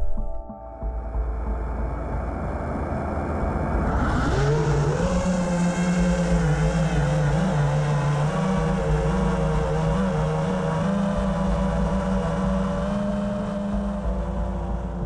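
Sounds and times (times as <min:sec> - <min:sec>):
quadcopter motors buzzing whine: 0:02.2 - 0:15.0.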